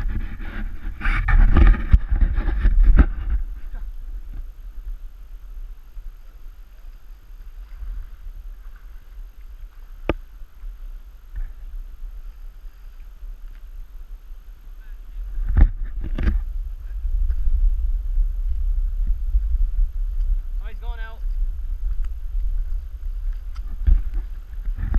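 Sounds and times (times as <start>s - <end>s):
low rumble: 0.0s - 24.9s.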